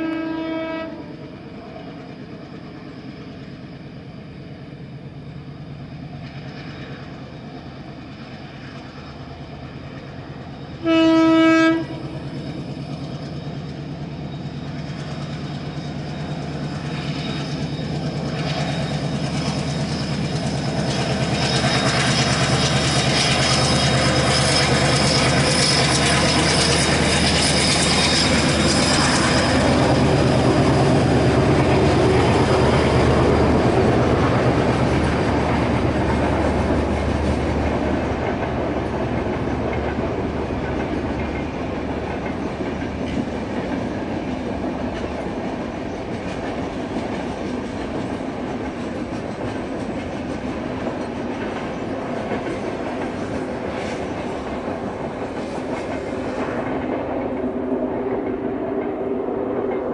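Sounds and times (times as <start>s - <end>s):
diesel locomotive engine: 0.0s - 59.9s
train coaches rumbling on track: 0.0s - 59.9s.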